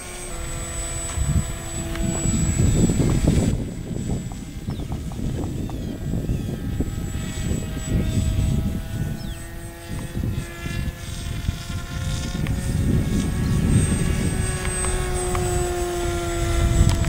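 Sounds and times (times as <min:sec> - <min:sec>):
model airplane motor drone: 0:00.0 - 0:17.0
wind rumble on microphone: 0:00.0 - 0:17.0.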